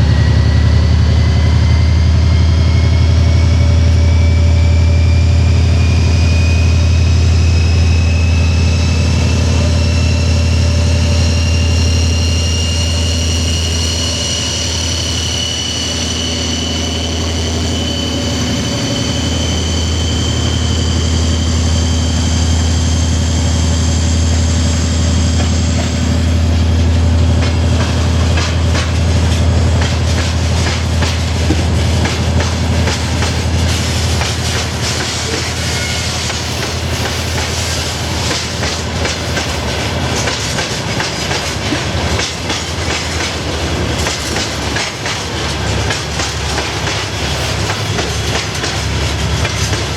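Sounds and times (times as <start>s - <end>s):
diesel locomotive drone and whine: 0.0s - 49.9s.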